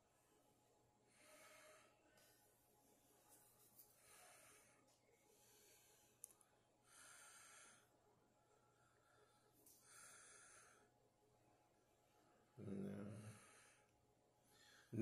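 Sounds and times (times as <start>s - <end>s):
man breathing faintly: 1.0s - 11.0s, 12.1s - 15.0s.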